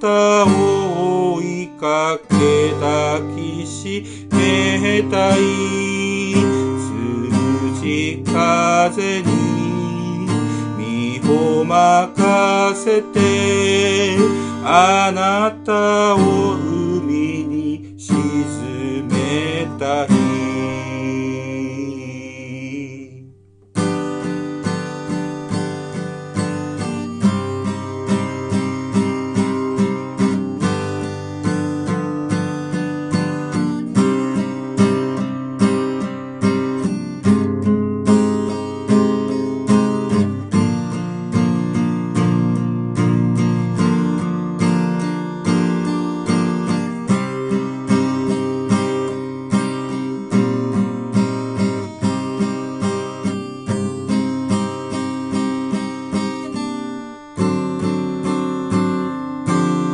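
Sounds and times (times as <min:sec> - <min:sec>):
acoustic guitar chords: 0:00.0 - 0:59.9.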